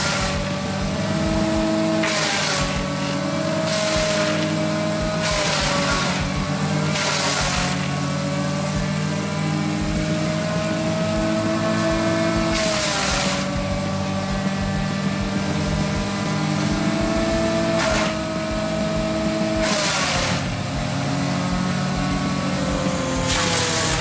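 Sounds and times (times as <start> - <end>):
wood chipper engine running: 0.0 - 24.0
wood chipping hiss: 0.0 - 24.0.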